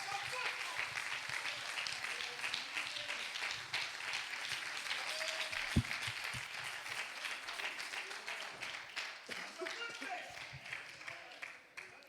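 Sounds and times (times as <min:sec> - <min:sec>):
congregation applauding: 0:00.0 - 0:12.0.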